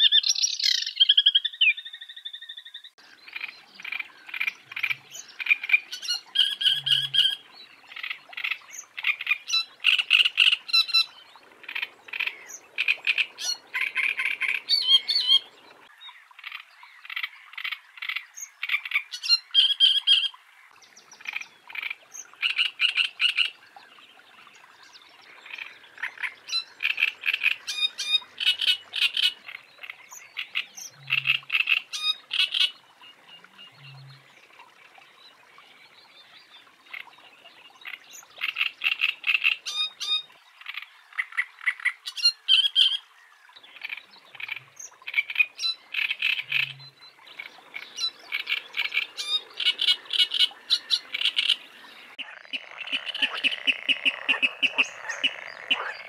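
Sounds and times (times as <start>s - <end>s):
bird harsh croaking song: 0.0s - 56.0s.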